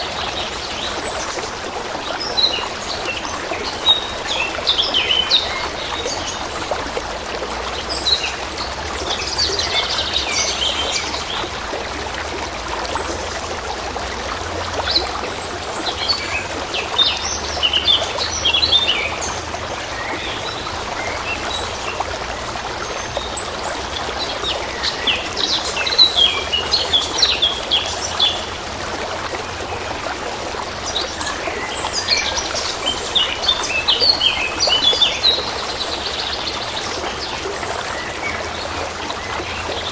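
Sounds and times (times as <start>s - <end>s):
trickling stream water: 0.0s - 39.9s.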